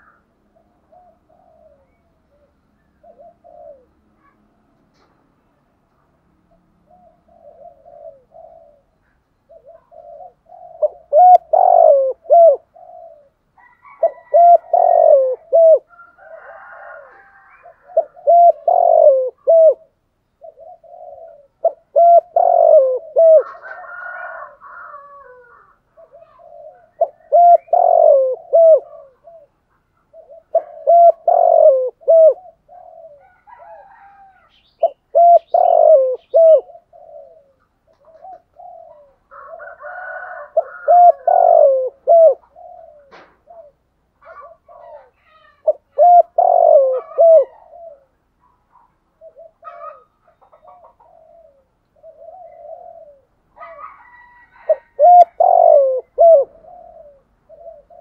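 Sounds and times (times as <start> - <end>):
dove cooing: 0.0 - 5.1, 6.4 - 58.0.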